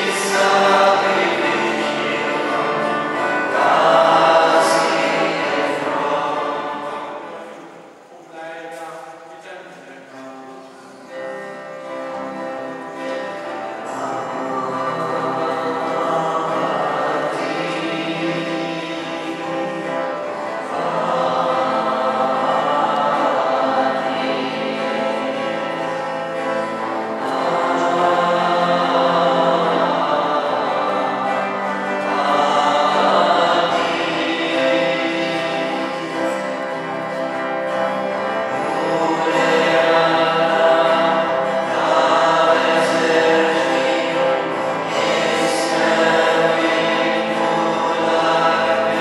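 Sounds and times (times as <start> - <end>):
church choir singing a hymn: 0.0 - 9.1, 10.2 - 49.0.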